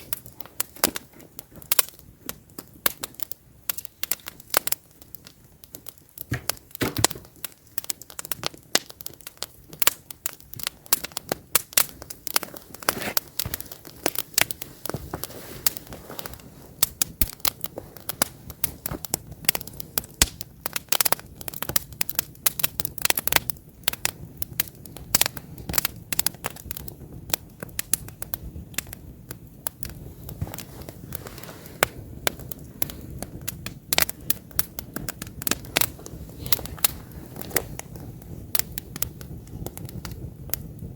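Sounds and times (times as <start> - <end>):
campfire crackling and popping: 0.0 - 40.9
hiss of flames: 0.0 - 40.9.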